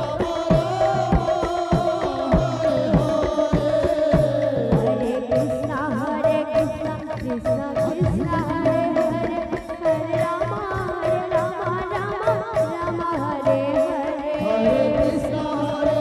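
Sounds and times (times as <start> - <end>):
woman singing into a microphone: 0.0 - 16.0.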